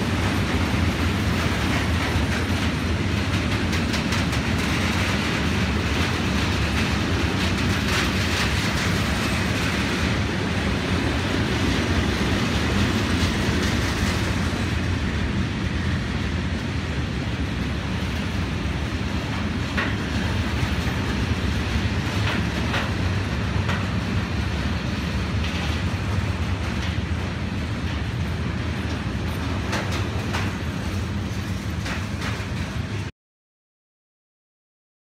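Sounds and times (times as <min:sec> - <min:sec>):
freight train rumbling past: 0:00.0 - 0:33.1.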